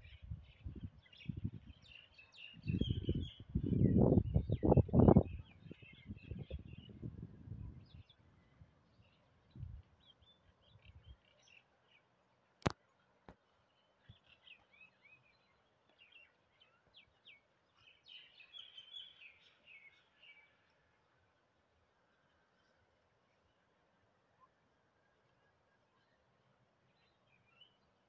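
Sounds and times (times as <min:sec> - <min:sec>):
quiet outdoor background noise: 0:00.0 - 0:28.0.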